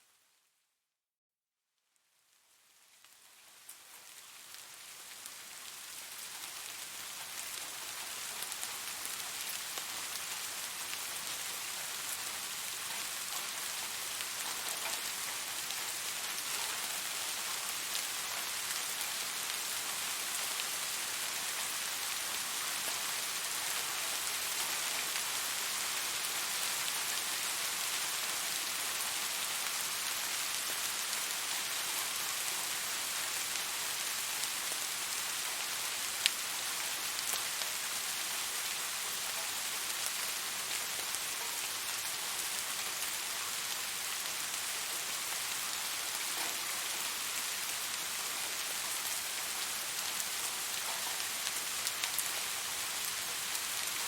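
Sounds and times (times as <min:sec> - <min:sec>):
steady rain: 0:01.8 - 0:54.0.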